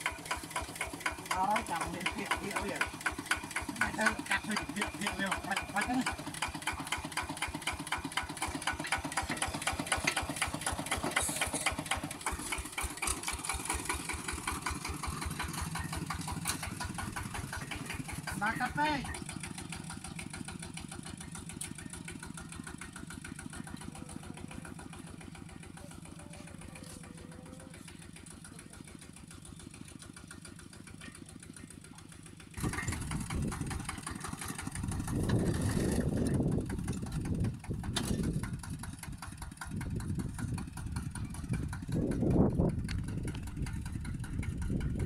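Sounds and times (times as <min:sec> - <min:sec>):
walking tractor diesel engine: 0:00.0 - 0:45.0.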